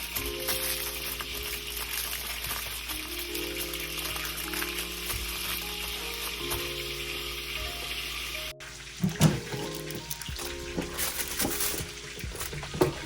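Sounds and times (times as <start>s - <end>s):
food sizzling in a frying pan: 0.0s - 12.8s
background music: 0.0s - 13.0s.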